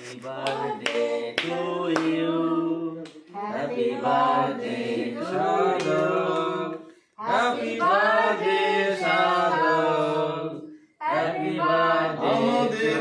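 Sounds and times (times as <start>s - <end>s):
voices chanting together: 0.0s - 13.0s.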